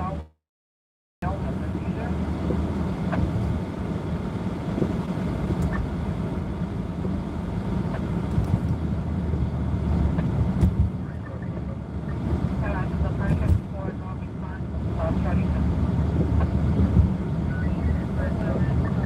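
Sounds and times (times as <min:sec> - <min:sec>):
car engine and tyre rumble: 0:01.2 - 0:19.0.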